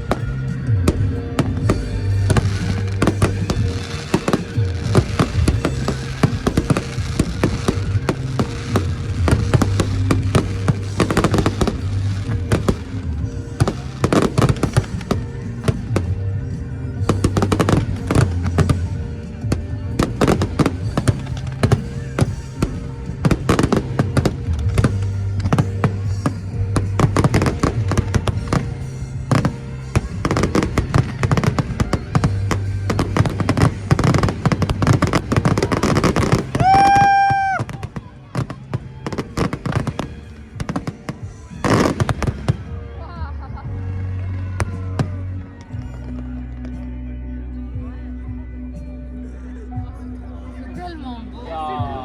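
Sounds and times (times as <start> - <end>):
fireworks bangs and crackles: 0.0 - 46.7
music with heavy bass: 0.0 - 52.0.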